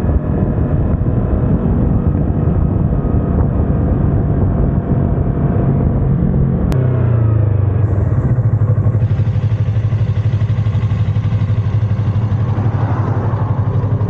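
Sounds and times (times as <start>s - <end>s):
motorcycle engine running at low revs: 0.0s - 14.0s.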